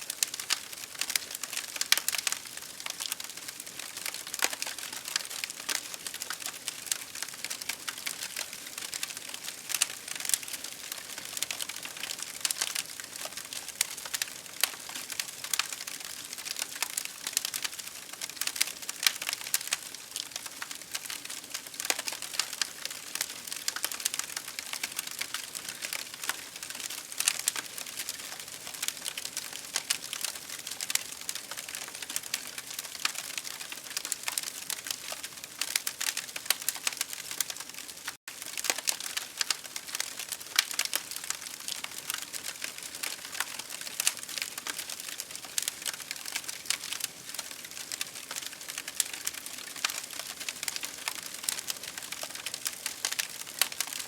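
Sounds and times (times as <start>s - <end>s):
campfire crackling: 0.1s - 54.0s.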